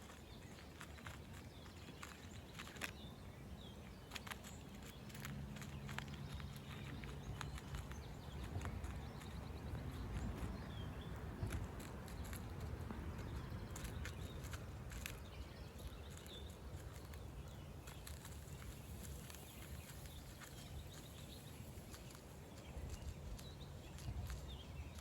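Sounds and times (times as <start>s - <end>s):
chipmunk nibbling: 0.0s - 25.0s.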